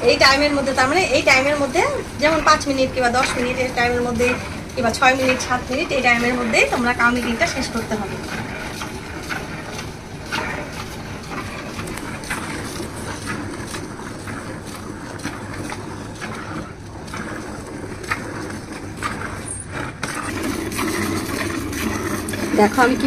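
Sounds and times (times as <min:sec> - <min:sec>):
milk squirting into plastic bucket: 0:01.3 - 0:23.0.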